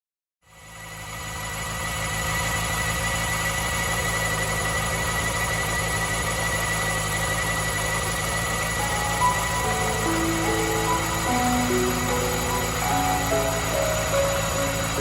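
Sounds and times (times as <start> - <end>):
water pump whine: 0.6 - 15.0.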